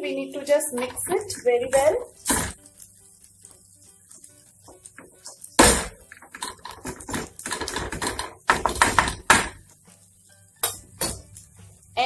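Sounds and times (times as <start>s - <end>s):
spatula scraping and tapping pan: 0.6s - 11.8s.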